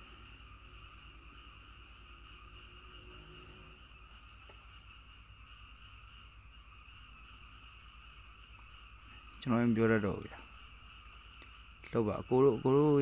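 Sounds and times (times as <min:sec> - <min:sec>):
insect chorus drone: 0:00.0 - 0:13.0
low even hum: 0:00.0 - 0:13.0.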